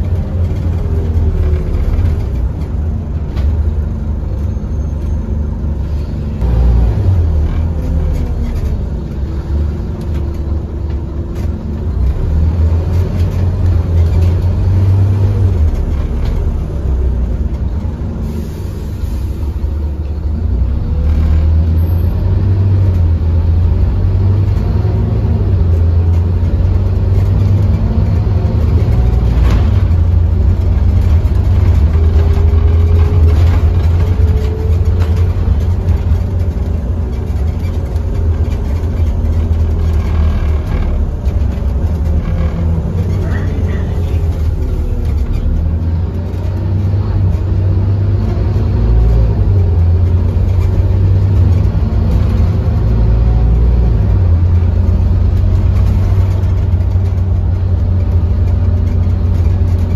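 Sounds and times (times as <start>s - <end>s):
bus diesel engine rumble: 0.0s - 59.9s.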